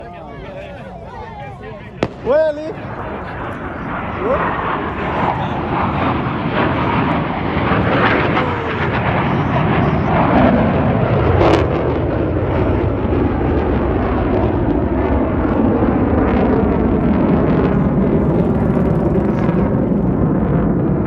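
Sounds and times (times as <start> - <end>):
fighter jet passing by: 0.0 - 21.0.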